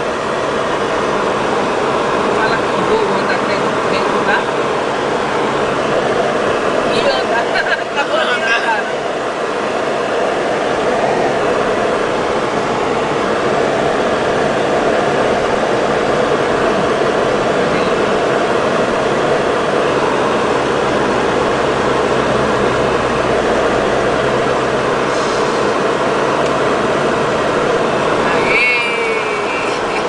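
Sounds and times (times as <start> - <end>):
car engine droning: 0.0 - 30.0
rush of water and rain: 0.0 - 30.0.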